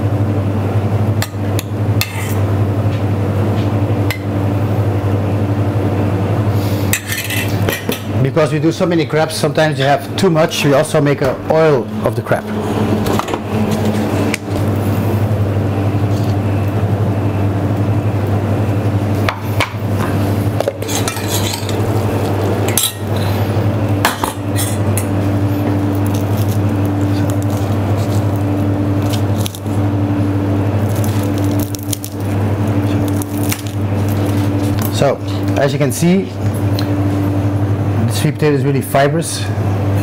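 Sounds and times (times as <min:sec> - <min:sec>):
low hum of kitchen equipment: 0:00.0 - 0:40.0.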